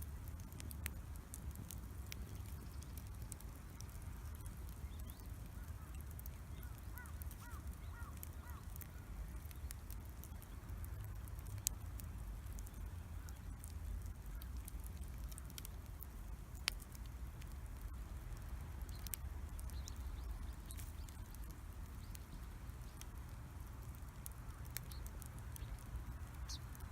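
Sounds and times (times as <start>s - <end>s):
bonfire crackling: 0.0s - 26.9s.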